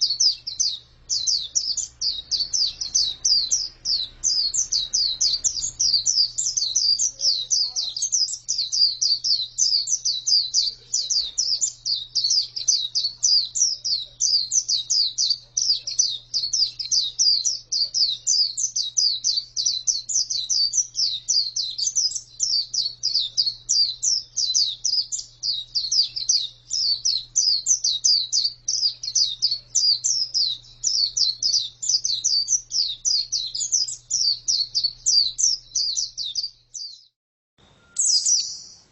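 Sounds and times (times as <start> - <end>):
bird singing high quick chirps: 0.0 - 38.9.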